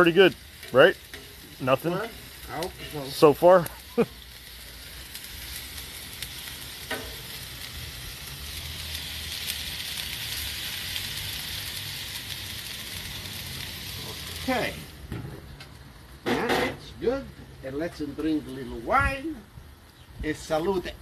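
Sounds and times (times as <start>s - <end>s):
meat and vegetables sizzling on griddle: 0.0s - 21.0s.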